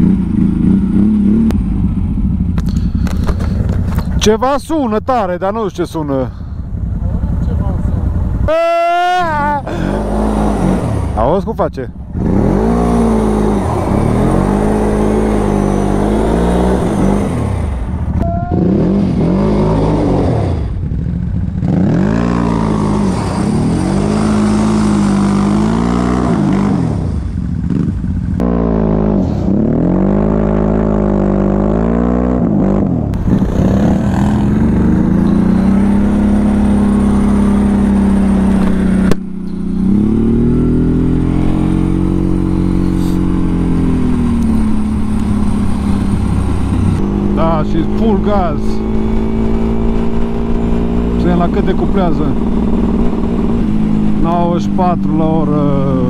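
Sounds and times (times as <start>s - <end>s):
atv engine revving: 0.0s - 4.9s, 5.5s - 56.0s.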